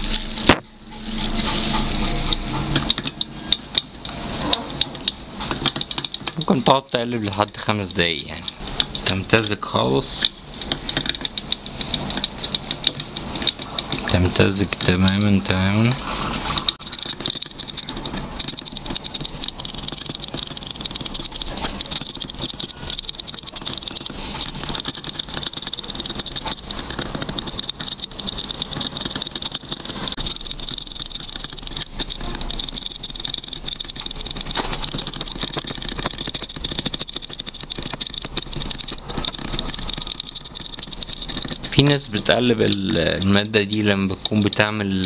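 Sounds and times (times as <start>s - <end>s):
stick scraping plastic cup: 4.4s - 45.0s.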